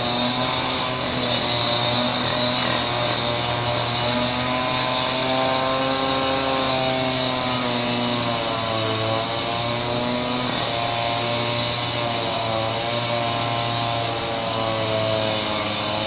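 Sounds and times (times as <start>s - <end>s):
concrete saw cutting stone: 0.0s - 16.0s.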